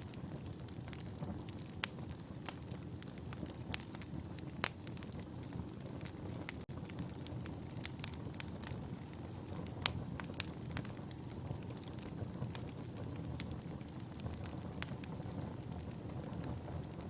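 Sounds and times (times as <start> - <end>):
fire crackling and popping: 0.0 - 17.0
fire flame rushing: 0.1 - 17.0.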